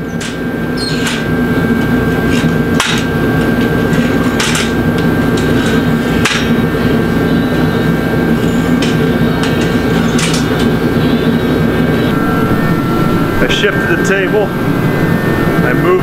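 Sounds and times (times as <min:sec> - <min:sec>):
loud steady hum: 0:00.0 - 0:16.0.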